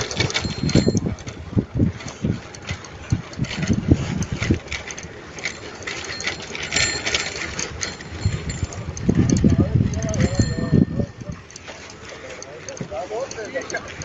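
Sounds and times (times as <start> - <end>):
wind buffeting microphone: 0.0 - 11.6
bicycle rattling clicks: 0.0 - 14.0.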